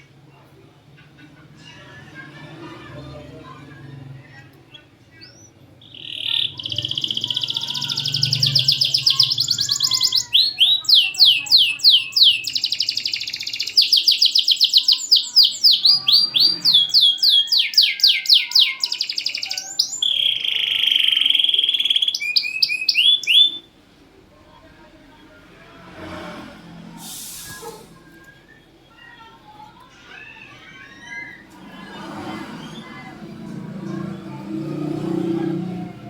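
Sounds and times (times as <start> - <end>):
canary singing: 1.4 - 23.8, 28.0 - 36.0.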